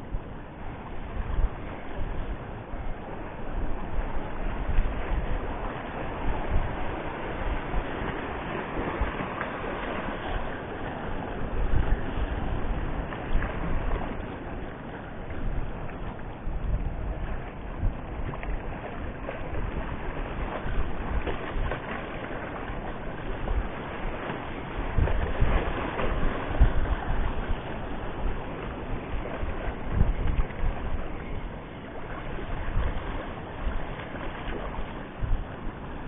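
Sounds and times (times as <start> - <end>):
wind gusting on microphone: 0.0 - 36.0
waves washing against rocks: 3.8 - 36.0.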